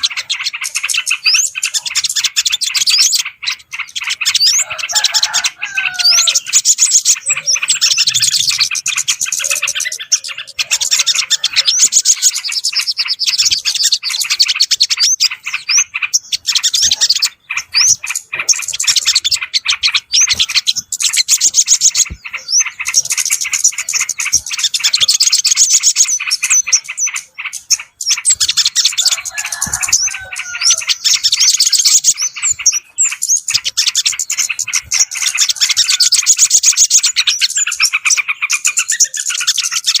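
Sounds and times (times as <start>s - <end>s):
songbirds chattering and twittering: 0.0s - 40.0s.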